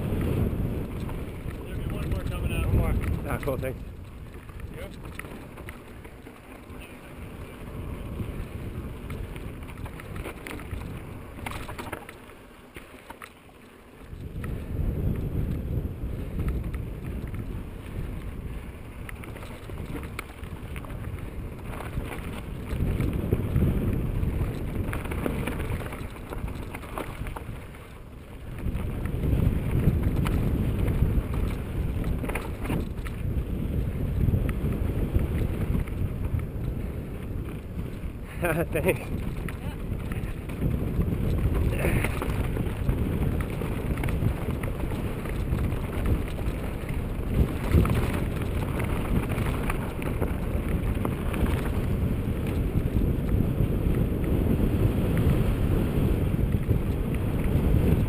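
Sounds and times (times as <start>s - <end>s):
wind buffeting microphone: 0.0s - 12.2s, 14.0s - 58.0s
bike rattling over bumps: 0.0s - 58.0s
bike tyre rumble on dirt: 0.0s - 58.0s.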